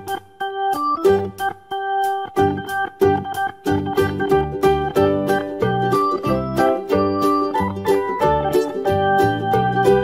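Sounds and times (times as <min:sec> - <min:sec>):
pitched notes in quick rhythm: 0:00.0 - 0:10.0.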